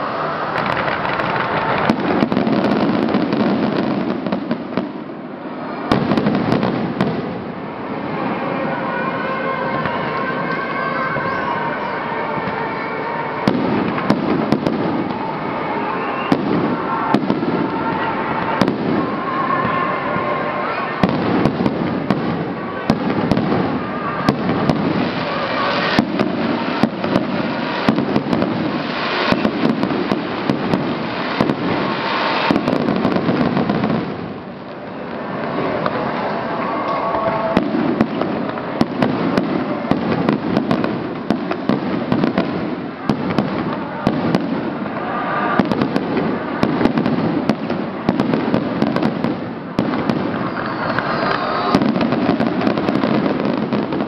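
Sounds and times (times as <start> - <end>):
fireworks bursting with bangs: 0.0 - 54.0
fireworks crackling: 0.0 - 54.0.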